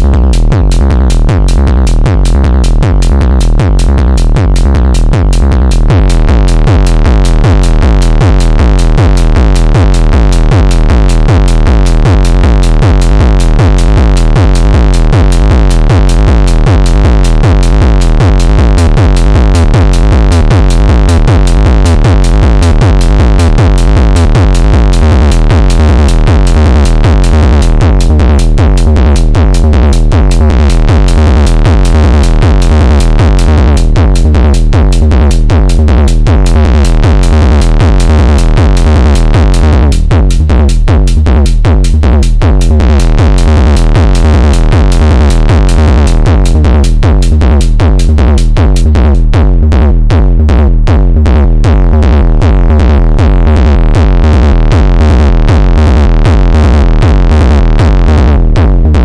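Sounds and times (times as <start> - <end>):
deep distorted synth kicks: 0.0 - 59.0.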